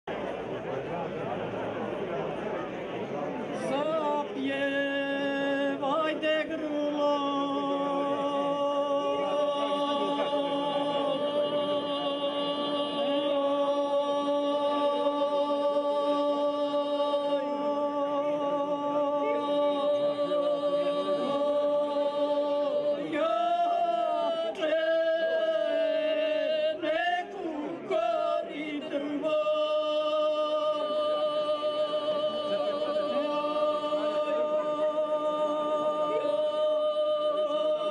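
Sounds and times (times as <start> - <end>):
women singing unaccompanied: 3.6 - 37.9.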